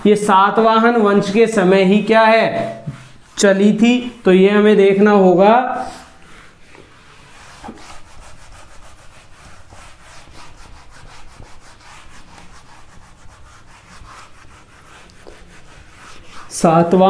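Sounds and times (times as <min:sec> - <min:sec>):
cloth scrubbing whiteboard: 0:00.0 - 0:17.0.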